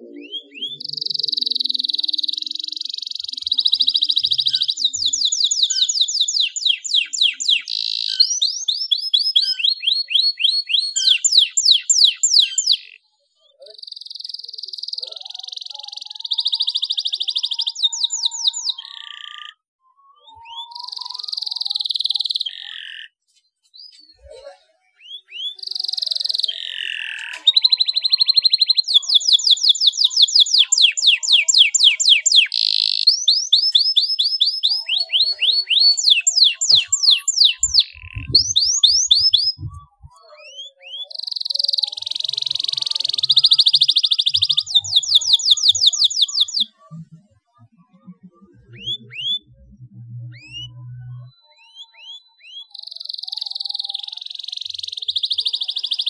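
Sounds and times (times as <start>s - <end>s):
canary singing trills: 0.0s - 23.2s, 23.8s - 56.0s.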